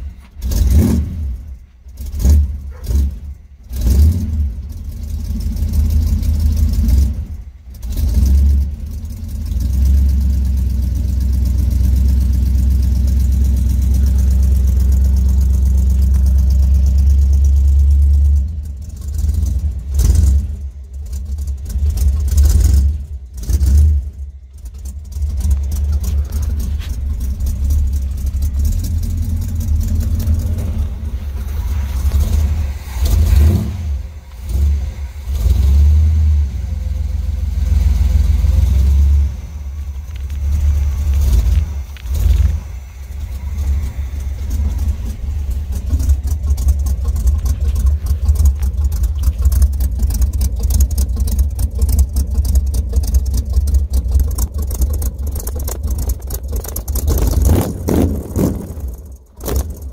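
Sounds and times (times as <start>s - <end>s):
engine idling rumble: 0.0s - 59.9s.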